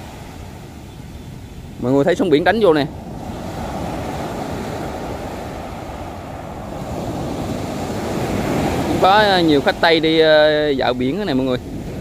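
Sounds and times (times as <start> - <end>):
sea surf breaking on beach: 0.0 - 12.0.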